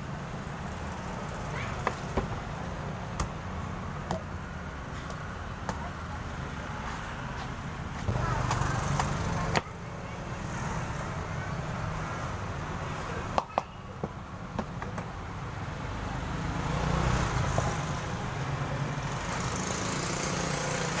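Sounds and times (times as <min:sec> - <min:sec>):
low traffic rumble: 0:00.0 - 0:21.0.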